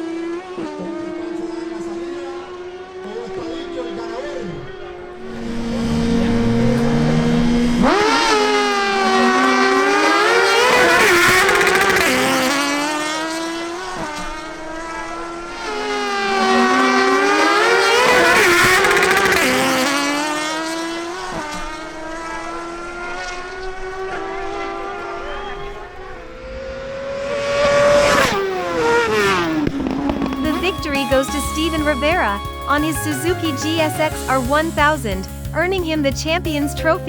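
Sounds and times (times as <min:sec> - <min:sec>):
motorcycle engines accelerating: 0:00.0 - 0:37.0.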